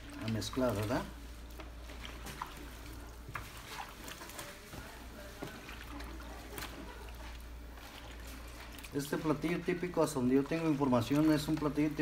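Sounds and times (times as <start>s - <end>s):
wet squishing and sloshing: 0.0s - 12.0s.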